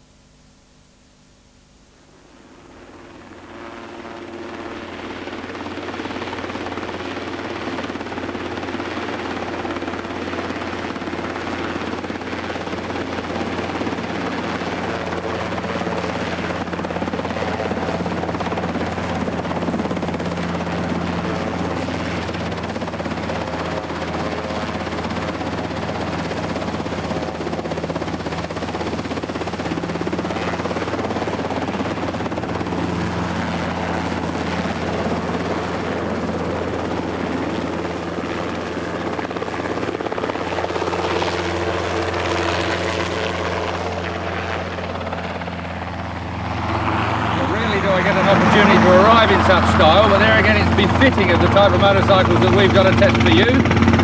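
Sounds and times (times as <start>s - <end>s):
helicopter engine and rotor: 2.2s - 54.0s.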